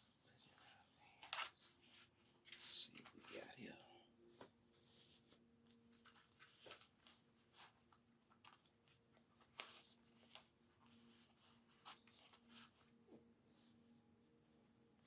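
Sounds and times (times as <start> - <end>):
clothing rustling: 0.0 - 15.0
faint steady hum: 0.0 - 15.0.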